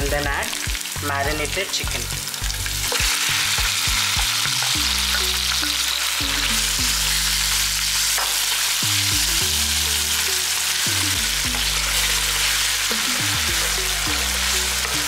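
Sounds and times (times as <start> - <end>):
background music with low notes: 0.0 - 15.0
chicken sizzling in oil: 0.0 - 15.0.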